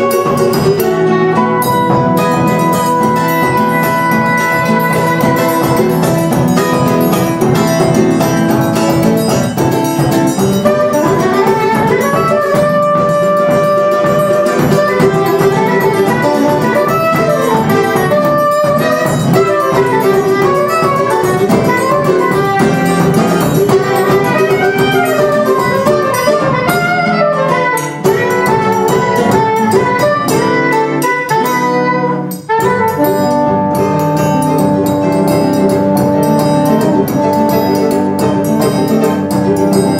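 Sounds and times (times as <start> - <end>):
acoustic guitar: 0.0 - 39.9
cavaquinho: 0.0 - 39.9
pandeiro: 0.0 - 39.9
soprano saxophone melody: 0.0 - 39.9.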